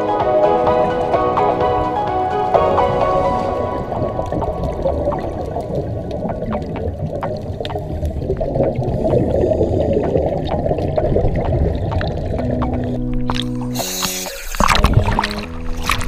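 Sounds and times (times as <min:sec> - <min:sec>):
underwater regulator bubbles: 0:00.2 - 0:16.0.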